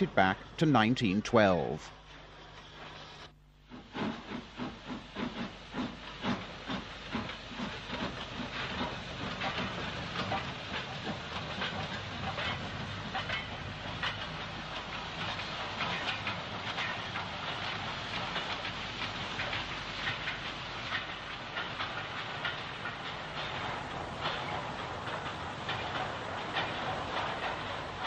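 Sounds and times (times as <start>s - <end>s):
steam locomotive chuffing: 0.0s - 28.0s
steam hissing: 1.6s - 28.0s.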